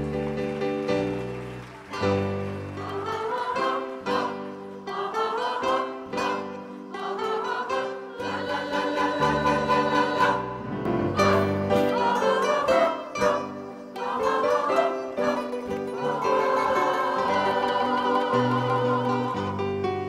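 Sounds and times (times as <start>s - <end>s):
instrumental accompaniment: 0.0s - 20.0s
mixed choir singing: 1.9s - 20.0s.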